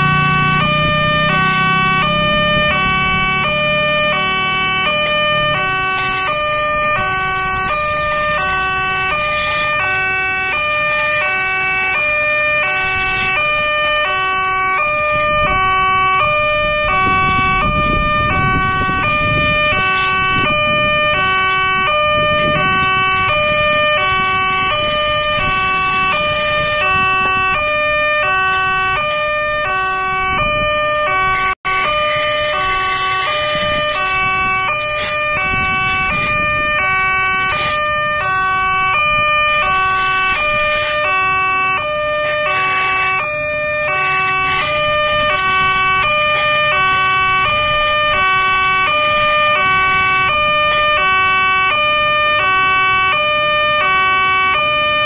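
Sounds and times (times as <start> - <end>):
level crossing alarm two tones: 0.0 - 55.0.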